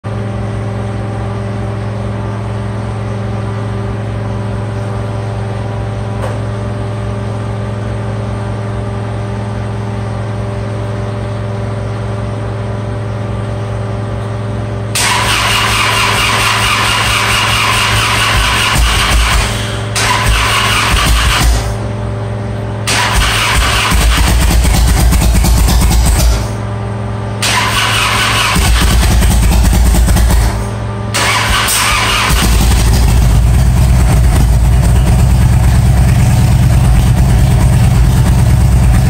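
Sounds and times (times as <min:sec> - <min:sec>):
petrol engine droning: 0:00.0 - 0:39.0.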